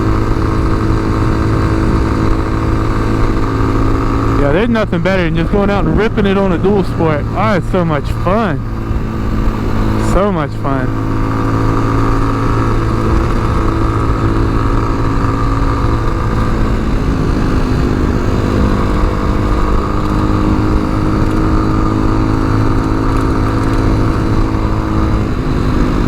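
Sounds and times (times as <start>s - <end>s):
motorcycle engine cruising: 0.0s - 26.0s
wind noise: 0.0s - 26.0s.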